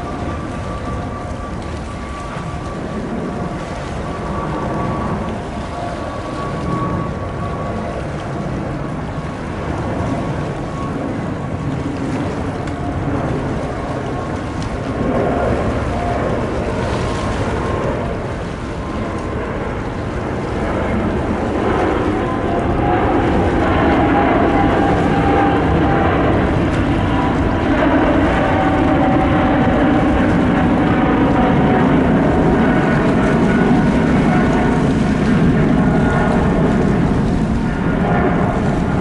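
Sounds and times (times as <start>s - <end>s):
jet engines rumbling with whine: 0.0s - 39.0s.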